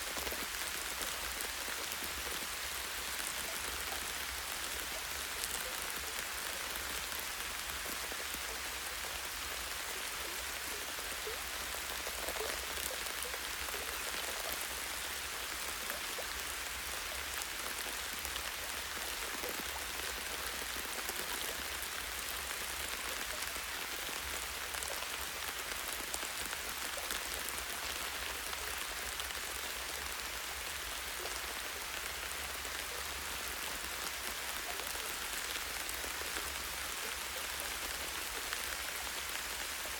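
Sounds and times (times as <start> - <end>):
light rain on trees: 0.0 - 39.9.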